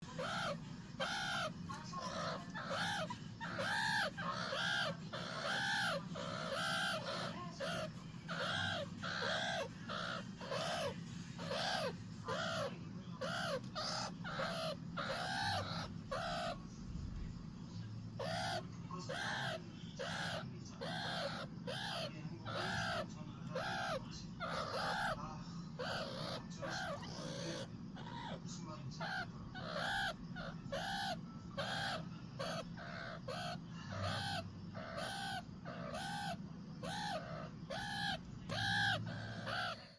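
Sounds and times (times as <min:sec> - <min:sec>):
baby meerkat calling: 0:00.0 - 0:16.7, 0:18.2 - 0:25.2, 0:25.8 - 0:39.9.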